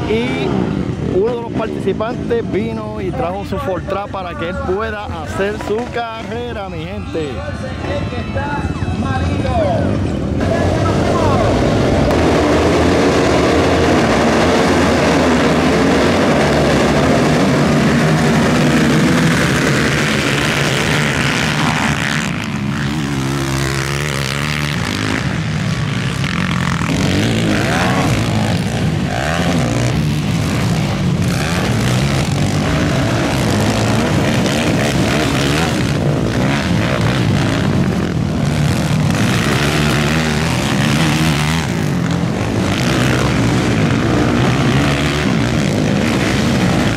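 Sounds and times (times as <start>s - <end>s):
atv engines revving: 0.0s - 46.9s.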